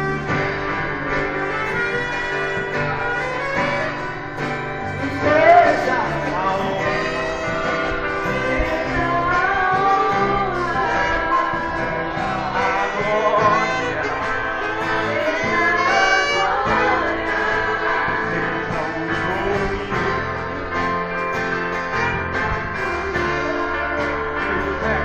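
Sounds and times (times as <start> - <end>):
instrumental accompaniment: 0.0 - 25.0
vocal group singing gospel: 0.0 - 25.0.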